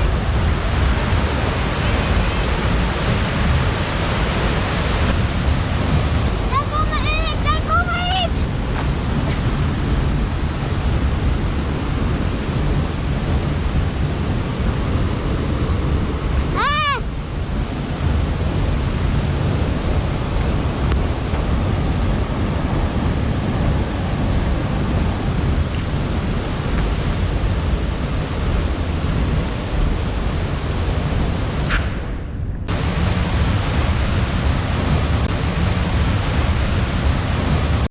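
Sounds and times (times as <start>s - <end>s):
waterfall roar: 0.0s - 31.7s, 32.7s - 37.9s.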